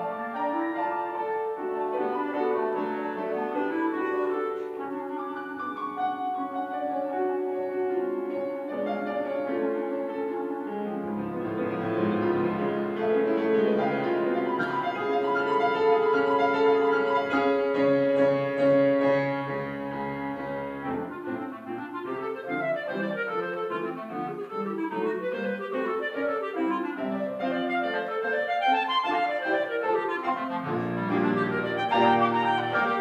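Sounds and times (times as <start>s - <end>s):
clarinet playing: 0.0s - 33.0s
piano playing: 0.0s - 33.0s.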